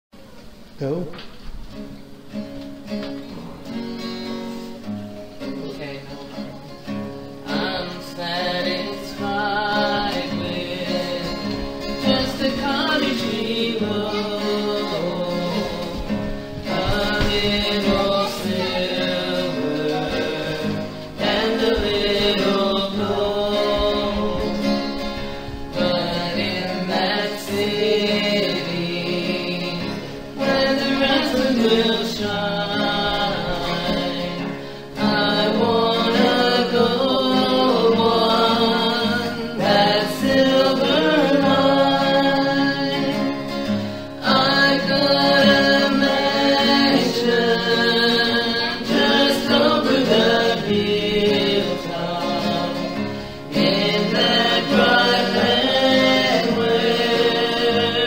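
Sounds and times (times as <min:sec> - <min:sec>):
guitar accompaniment: 0:00.1 - 0:58.0
group of voices singing: 0:06.9 - 0:58.0.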